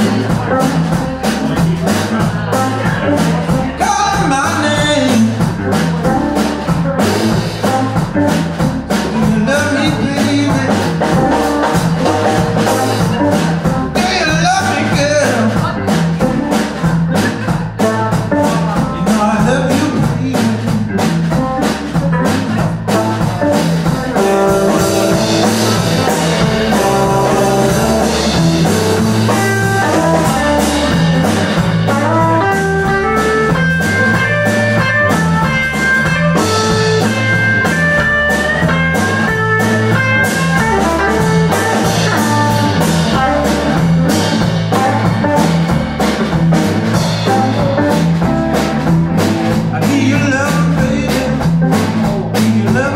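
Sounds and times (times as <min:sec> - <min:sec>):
guitar lead line: 0:00.0 - 0:52.9
live blues band playing: 0:00.0 - 0:52.9.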